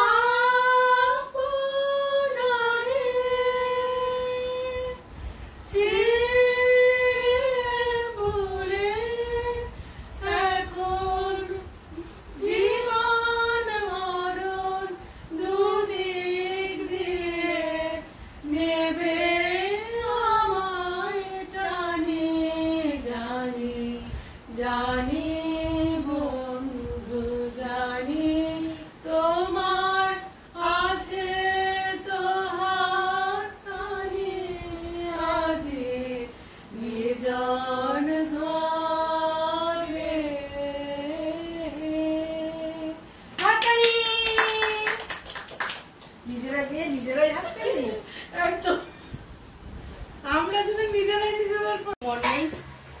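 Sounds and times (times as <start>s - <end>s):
women singing without instruments: 0.0s - 5.1s, 5.7s - 45.0s.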